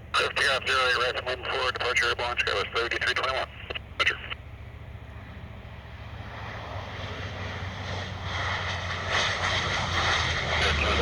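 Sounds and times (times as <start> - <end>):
airliner jet engines rushing: 0.0 - 11.0.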